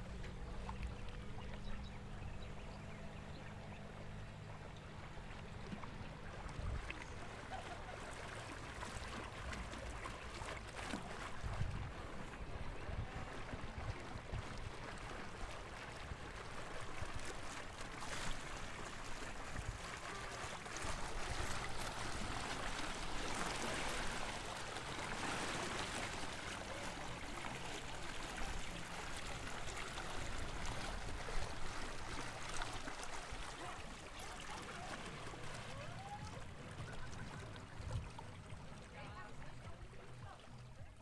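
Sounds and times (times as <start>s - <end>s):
water splashing along boat hull: 0.0s - 41.0s.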